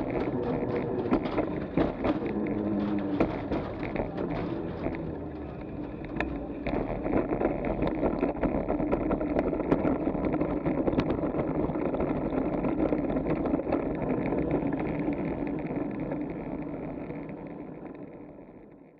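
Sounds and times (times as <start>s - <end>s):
small clicks and knocks: 0.0s - 18.0s
bicycle tyres rumbling on bridge: 0.0s - 18.8s.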